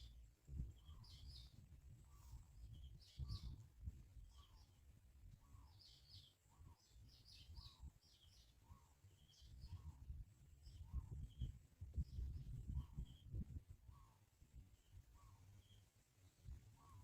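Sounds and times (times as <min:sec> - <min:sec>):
lower bird call: 0:00.0 - 0:04.8, 0:05.4 - 0:14.3, 0:15.0 - 0:15.9, 0:16.7 - 0:17.0.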